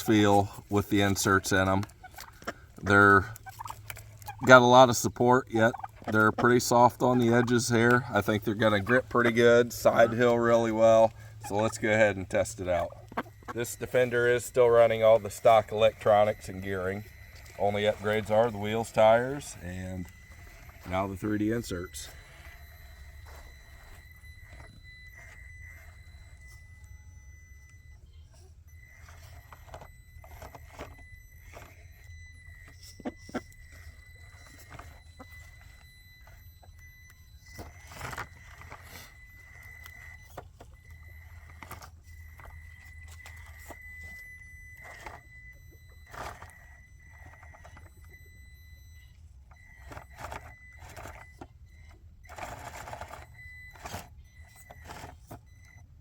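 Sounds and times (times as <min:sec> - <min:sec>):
electric motor whine: 0:06.0 - 0:55.5.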